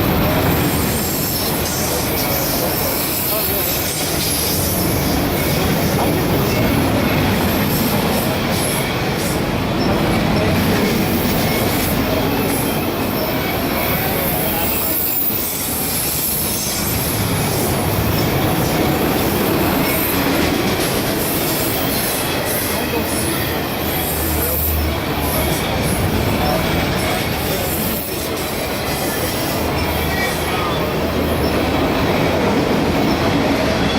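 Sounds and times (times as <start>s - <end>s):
freight train wheels on rails: 0.0s - 33.9s.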